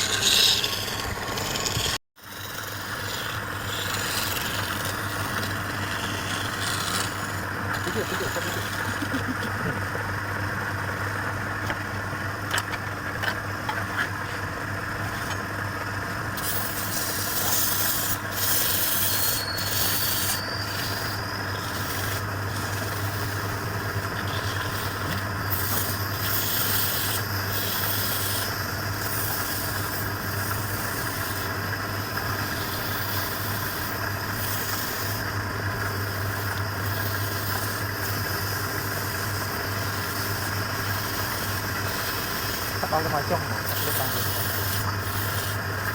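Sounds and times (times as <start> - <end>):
lathe motor humming: 0.0 - 45.9
tool scraping spinning wood: 0.0 - 45.9.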